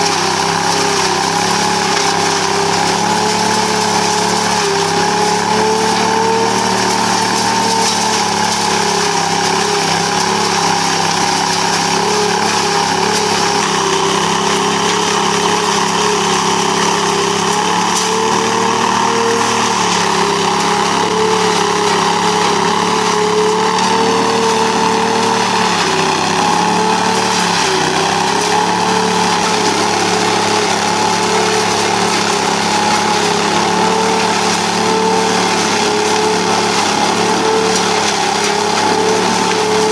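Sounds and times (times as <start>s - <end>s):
air and leaves rushing through hose: 0.0s - 39.9s
leaf vacuum engine hum: 0.0s - 39.9s.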